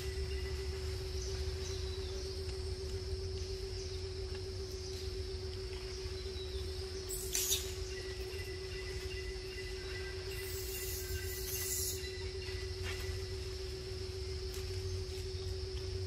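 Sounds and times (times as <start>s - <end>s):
insect chirring: 0.0s - 16.0s
steady low hum: 0.0s - 16.0s.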